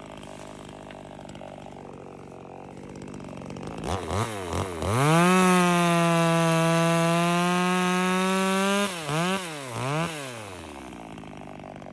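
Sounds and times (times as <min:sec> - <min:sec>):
mini chainsaw revving: 0:00.0 - 0:11.9.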